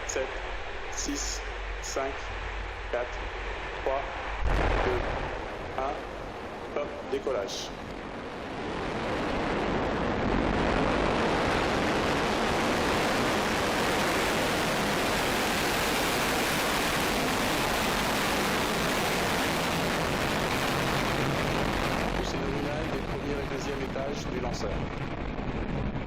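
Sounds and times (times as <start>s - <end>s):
rocket engines roaring: 0.0s - 26.0s.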